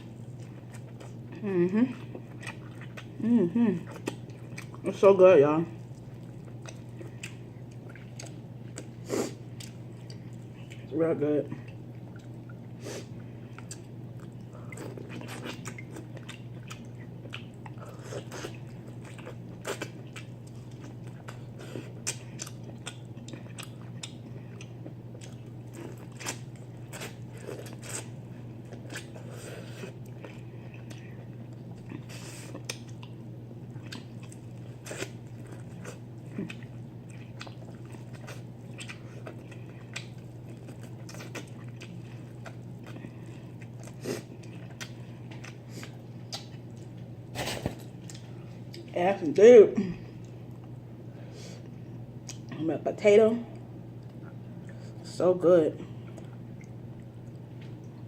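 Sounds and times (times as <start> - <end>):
steady low hum: 0.0 - 58.0
chewing and lip smacking: 2.0 - 3.2, 3.8 - 4.9, 5.8 - 10.9, 11.6 - 48.9, 56.0 - 58.0.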